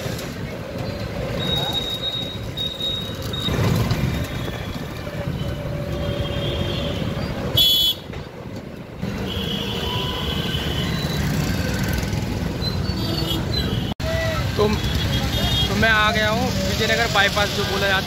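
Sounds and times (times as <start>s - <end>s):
vehicle traffic rumble: 0.0s - 18.0s.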